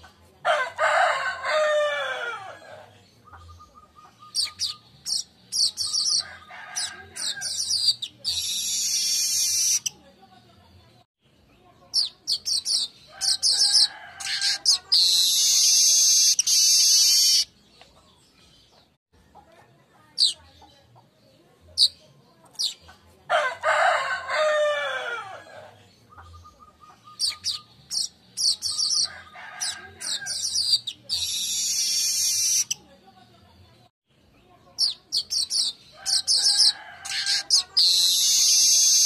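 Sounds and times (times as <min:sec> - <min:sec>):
weaver birds singing: 0:01.0 - 0:19.0, 0:23.6 - 0:39.0.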